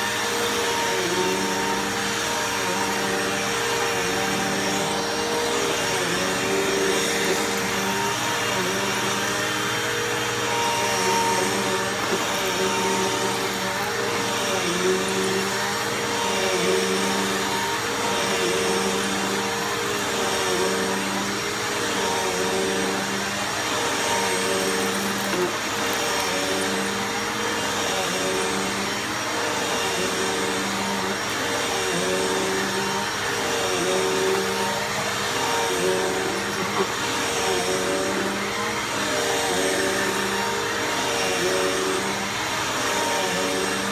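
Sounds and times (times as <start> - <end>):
upright vacuum cleaner running: 0.0 - 43.9.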